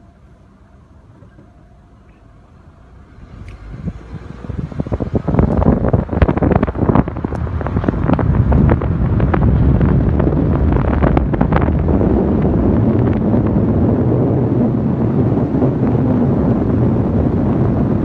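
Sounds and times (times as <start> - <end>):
wind buffeting microphone: 2.8 - 18.0.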